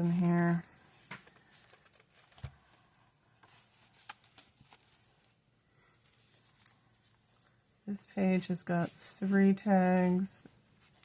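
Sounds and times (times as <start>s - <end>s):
paper pages rustling: 0.0s - 5.4s, 6.0s - 7.6s, 8.8s - 11.0s.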